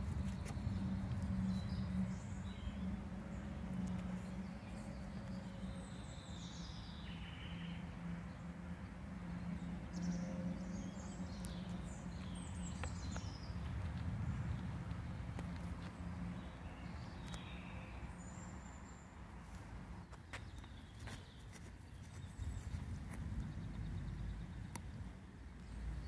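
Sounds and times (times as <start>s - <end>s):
birds chirping: 0.0s - 26.0s
low outdoor background hum: 0.0s - 26.0s.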